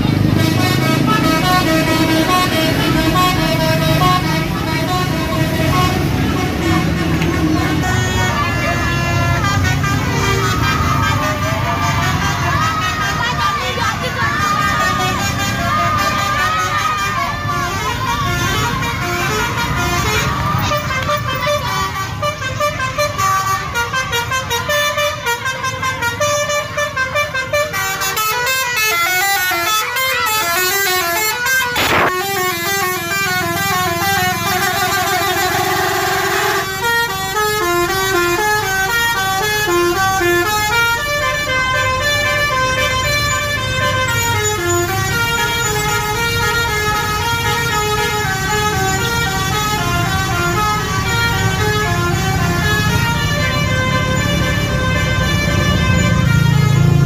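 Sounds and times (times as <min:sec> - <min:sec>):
bus engine running: 0:00.0 - 0:57.0
musical bus horn melody: 0:00.0 - 0:57.0.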